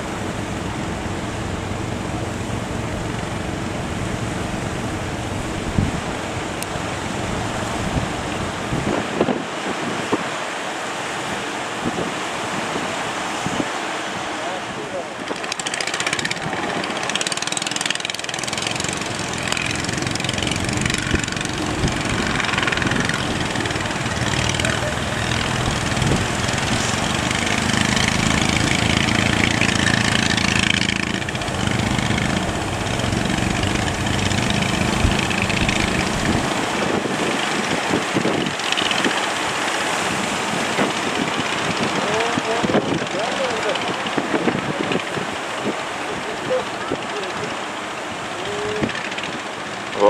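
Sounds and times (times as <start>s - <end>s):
boat engine running: 0.0s - 50.0s
surf: 0.0s - 50.0s
wind: 0.0s - 50.0s.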